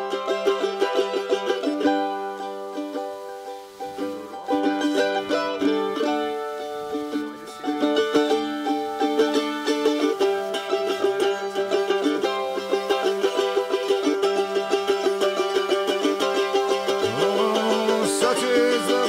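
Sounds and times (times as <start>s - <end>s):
plucked string instrument music: 0.0s - 19.0s.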